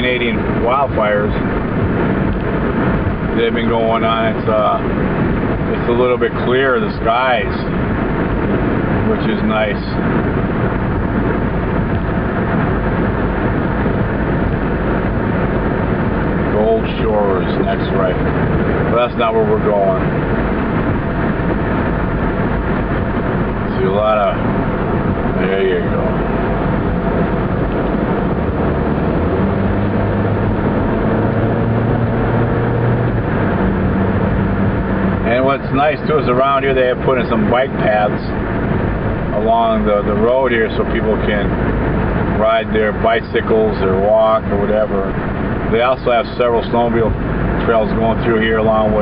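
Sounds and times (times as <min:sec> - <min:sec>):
car driving at highway speed: 0:00.0 - 0:49.0
low steady hum: 0:00.0 - 0:49.0
vehicle road noise: 0:00.0 - 0:49.0.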